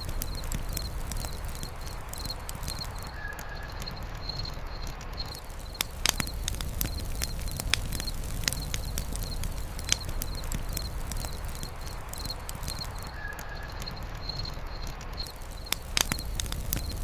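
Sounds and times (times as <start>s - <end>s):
campfire crackling and popping: 0.0s - 17.0s
small high chirp: 0.0s - 17.0s.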